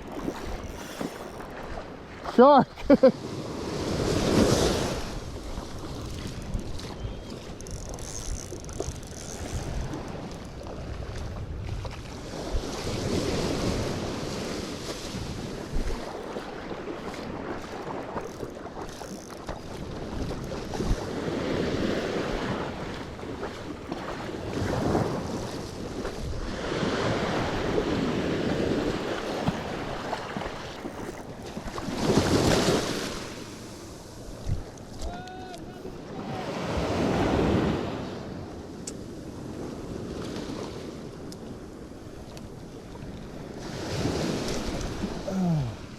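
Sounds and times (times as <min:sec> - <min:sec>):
small surf washing up beach: 0:00.0 - 0:45.9
wind buffeting microphone: 0:03.5 - 0:33.2, 0:34.1 - 0:45.3.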